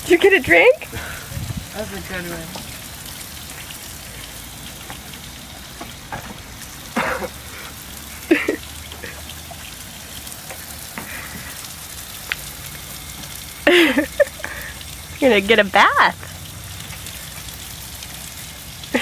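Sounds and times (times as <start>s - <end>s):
tap water spattering: 0.0s - 19.0s.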